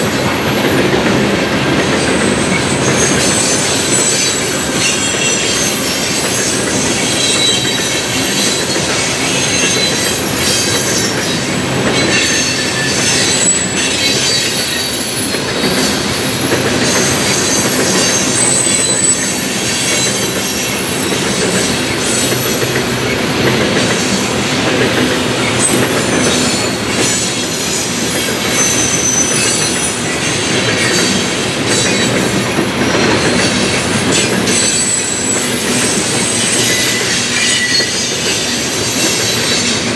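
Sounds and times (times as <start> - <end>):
train cars rolling on rails: 0.0 - 39.9
high-pitched flange squeals: 2.0 - 21.4, 26.0 - 39.9.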